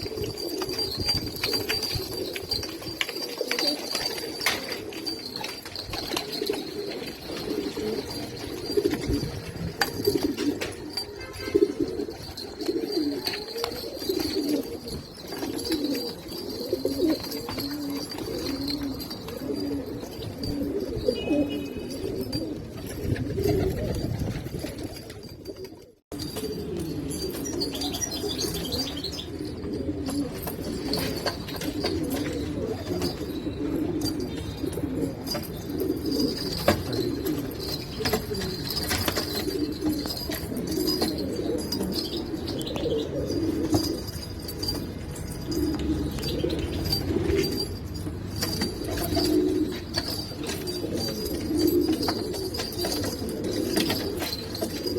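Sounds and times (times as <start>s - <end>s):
pigeons cooing: 0.0s - 54.9s.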